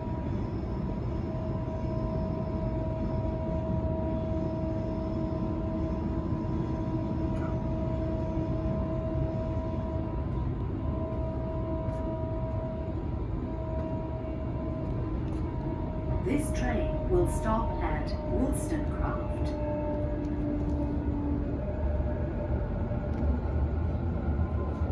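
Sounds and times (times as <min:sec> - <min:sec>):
train wheels rumbling on track: 0:00.0 - 0:24.9.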